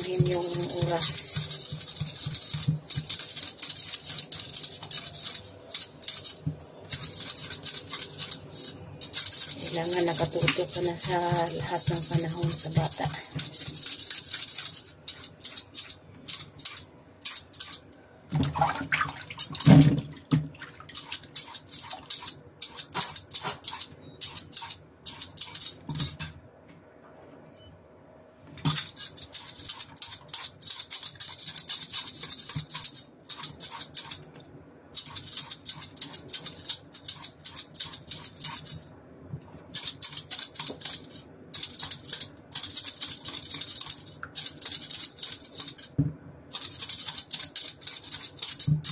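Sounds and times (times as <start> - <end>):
peeler scraping cucumber: 0.0 - 17.9, 20.9 - 26.2, 28.7 - 34.3, 35.0 - 38.8, 39.7 - 46.0, 46.6 - 48.9.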